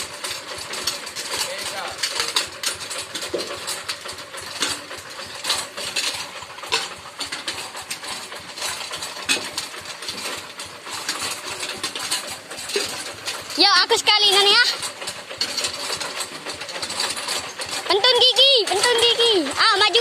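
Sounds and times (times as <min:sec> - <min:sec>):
metallic clattering and rattling: 0:00.0 - 0:20.0
tractor engine running: 0:00.0 - 0:20.0.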